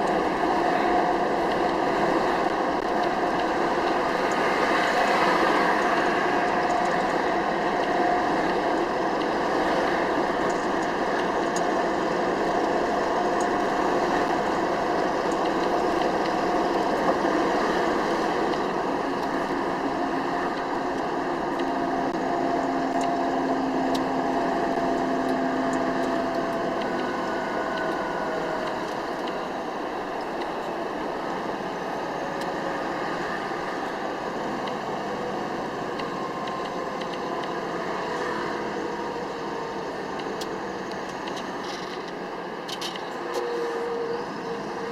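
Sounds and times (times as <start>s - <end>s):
truck engine drone: 0.0s - 44.9s.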